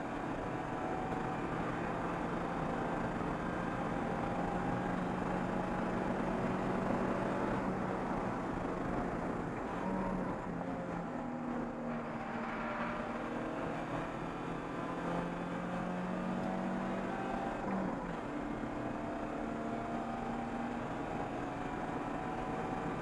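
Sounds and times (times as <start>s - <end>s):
race car engine accelerating: 0.3s - 23.0s.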